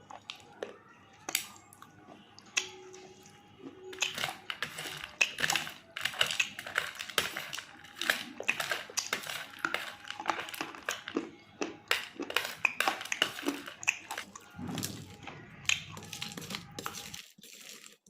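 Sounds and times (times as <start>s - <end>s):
crunching chewing of hard material: 0.0s - 18.0s.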